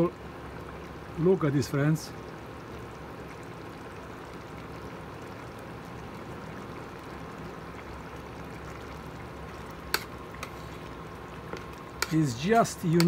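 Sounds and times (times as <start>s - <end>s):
beans simmering and bubbling: 0.0s - 13.0s.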